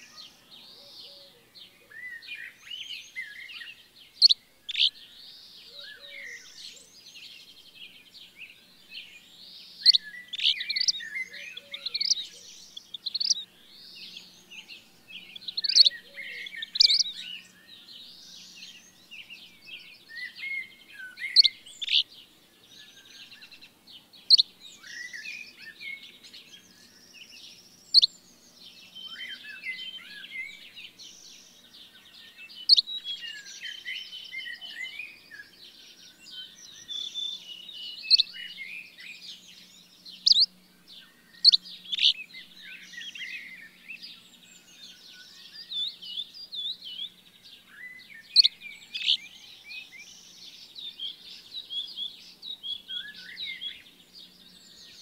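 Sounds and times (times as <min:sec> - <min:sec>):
songbirds chorus: 0:00.0 - 0:55.0.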